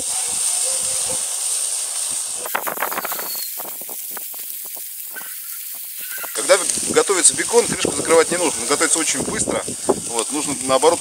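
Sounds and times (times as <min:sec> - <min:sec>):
bacon sizzling on a grill: 0:00.0 - 0:11.0
fat crackling: 0:01.4 - 0:11.0.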